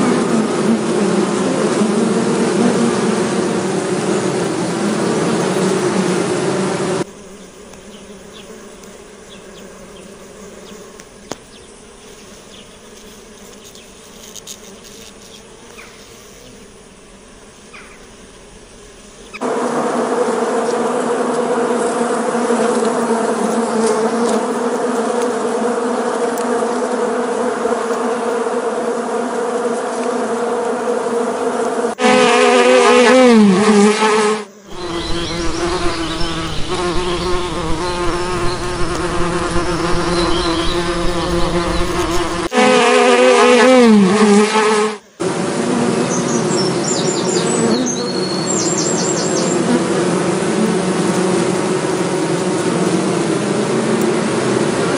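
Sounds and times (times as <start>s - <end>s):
bees buzzing: 0.0s - 54.9s
close bee buzzing: 0.0s - 54.9s.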